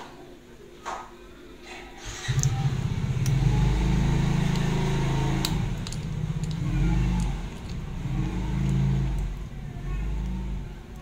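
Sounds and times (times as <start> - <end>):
vehicle engine drone: 2.0 - 11.0.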